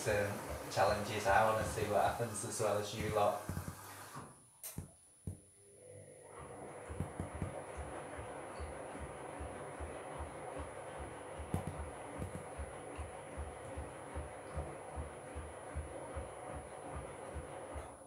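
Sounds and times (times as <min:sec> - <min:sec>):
washing machine drum turning: 0:00.0 - 0:04.2, 0:06.3 - 0:18.0.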